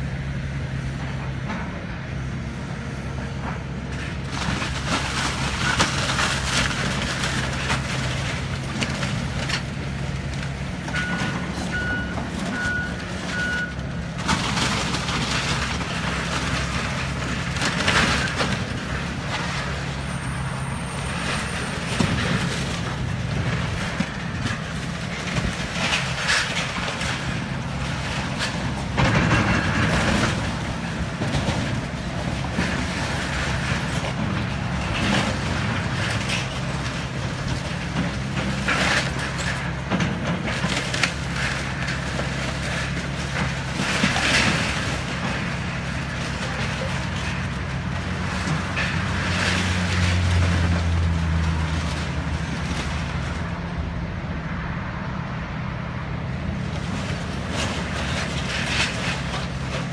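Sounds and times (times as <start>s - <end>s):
excavator diesel engine running: 0.0s - 59.9s
timber crashing and crunching: 4.0s - 53.5s, 56.7s - 59.9s.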